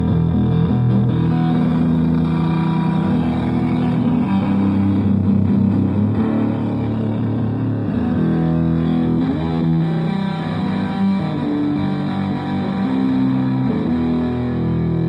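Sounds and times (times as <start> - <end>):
distorted electric guitar notes: 0.0 - 15.0.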